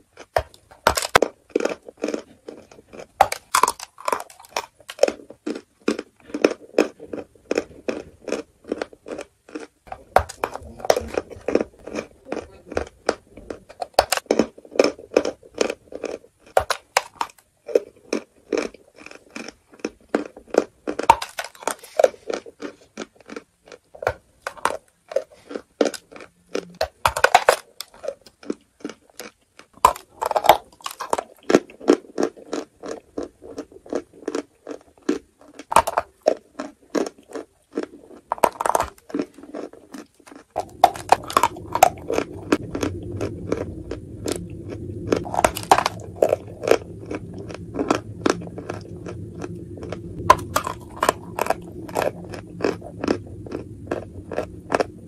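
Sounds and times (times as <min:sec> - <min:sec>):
chalk crunching and chewing: 0:00.0 - 0:55.0.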